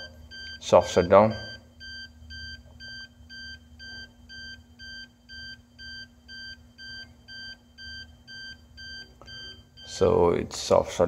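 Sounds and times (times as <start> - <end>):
short high alarm beeps: 0.0 - 10.2
faint low hum: 0.0 - 11.0.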